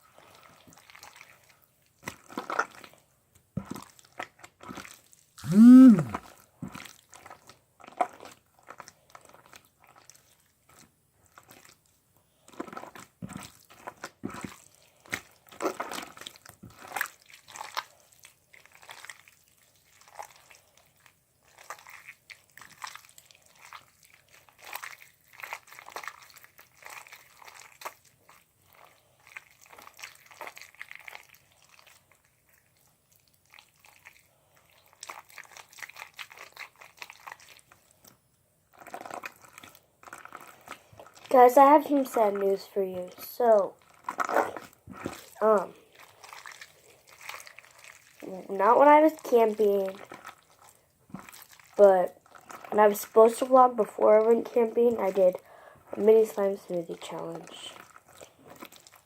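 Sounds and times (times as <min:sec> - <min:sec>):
slime squelching in bottle: 0:03.6 - 0:59.0.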